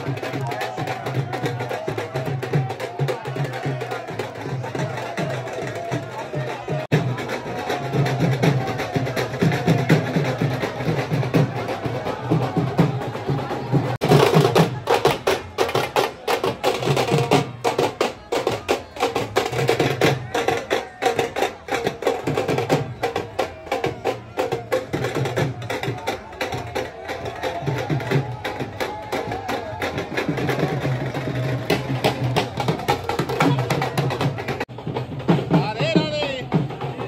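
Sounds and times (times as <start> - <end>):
hand drums beating: 0.0 - 37.0.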